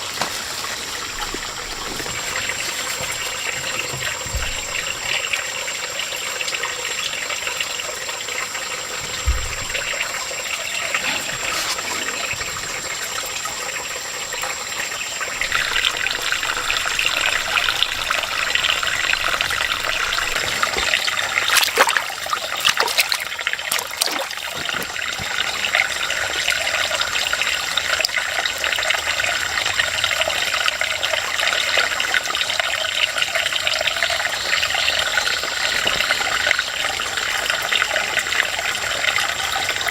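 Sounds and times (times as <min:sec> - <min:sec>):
water trickling and running: 0:00.0 - 0:39.9.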